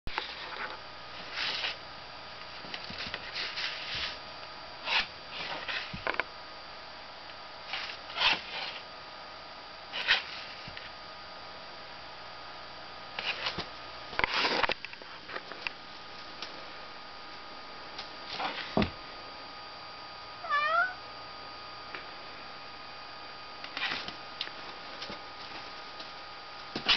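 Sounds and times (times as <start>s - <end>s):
faint steady hum: 0.1s - 26.9s.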